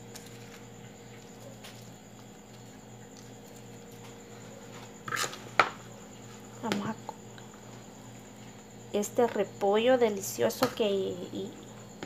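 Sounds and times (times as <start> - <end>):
low hum with high whine: 0.0 - 12.0.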